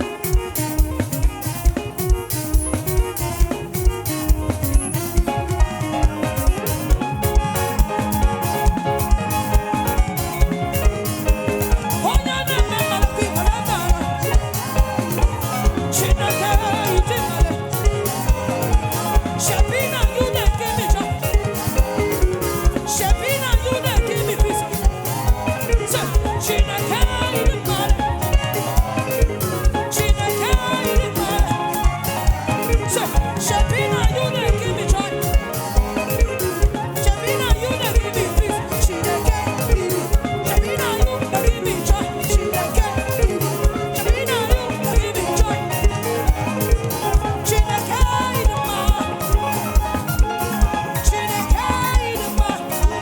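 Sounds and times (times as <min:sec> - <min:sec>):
gospel praise band music: 0:00.0 - 0:53.0
melodic lead: 0:00.0 - 0:53.0
steady drum beat: 0:00.0 - 0:53.0.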